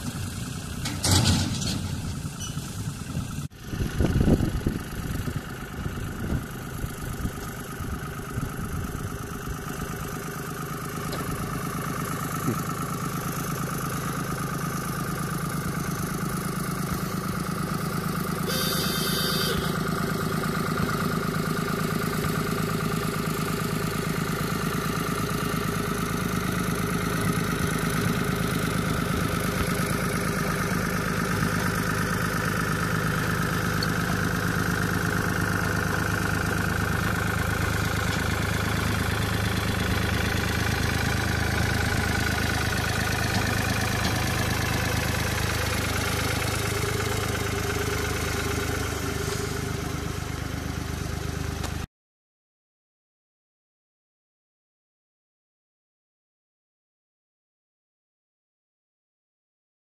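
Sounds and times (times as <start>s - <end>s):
diesel locomotive engine running: 0.0s - 51.9s.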